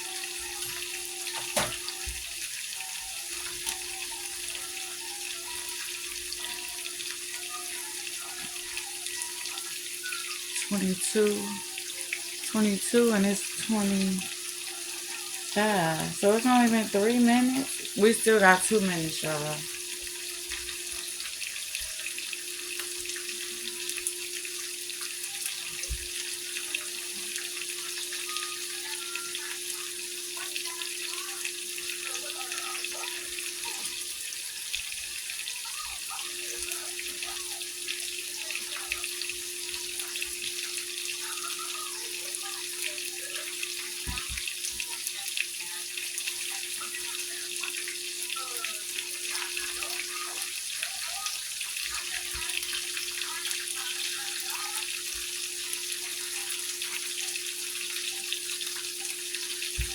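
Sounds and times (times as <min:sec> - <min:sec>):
steak sizzling in a hot pan: 0:00.0 - 0:59.9.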